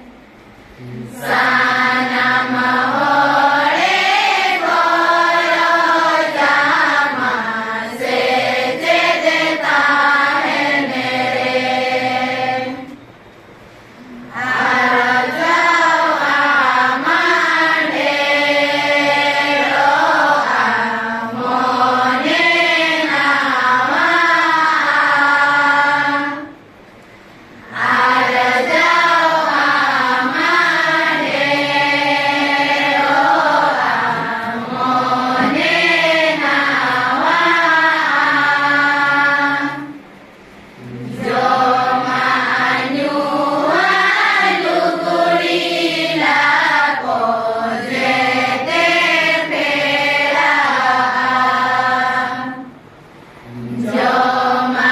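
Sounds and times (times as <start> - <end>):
group of girls singing in unison: 0.0 - 13.2, 14.0 - 26.8, 27.4 - 54.9.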